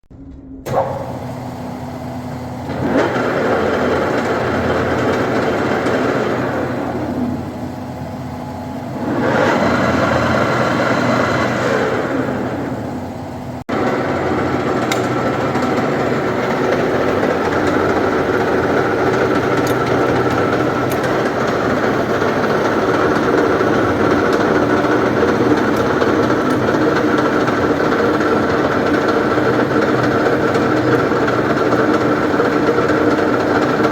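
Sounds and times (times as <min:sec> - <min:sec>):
lathe humming and whining: 0:00.6 - 0:33.9.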